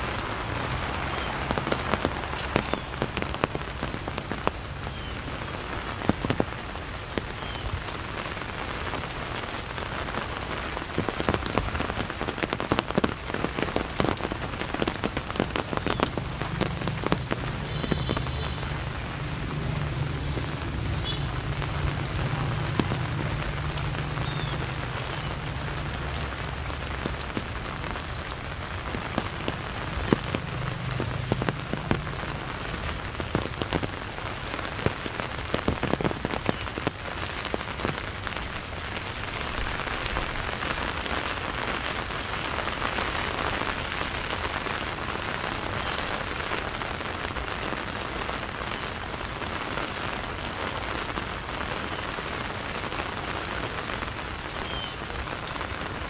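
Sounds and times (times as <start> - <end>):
sharp raindrop impacts: 0.0 - 56.0
steady rain pattering: 0.0 - 56.0.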